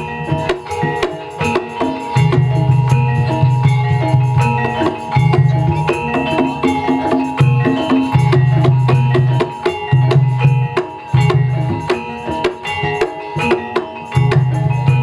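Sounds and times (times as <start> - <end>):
fast hand drums: 0.0 - 15.0
metallophone notes: 0.0 - 15.0.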